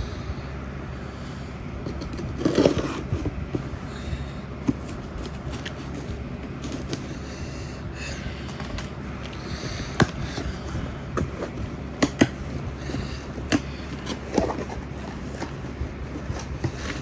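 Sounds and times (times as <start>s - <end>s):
cardboard scraping and rustling: 1.8s - 7.5s, 8.5s - 17.0s.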